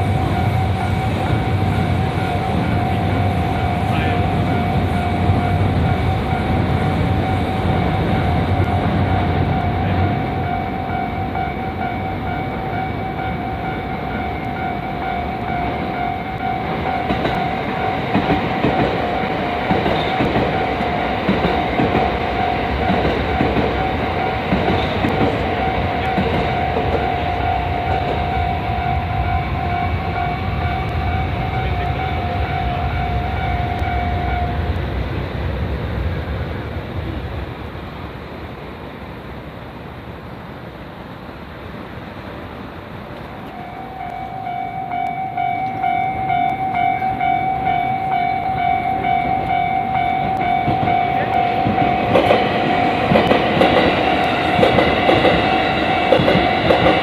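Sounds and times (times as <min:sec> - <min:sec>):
train wheels clacking over rail joints: 0:00.0 - 0:34.3, 0:45.6 - 0:57.0
level crossing warning bell: 0:00.0 - 0:35.0, 0:43.3 - 0:57.0.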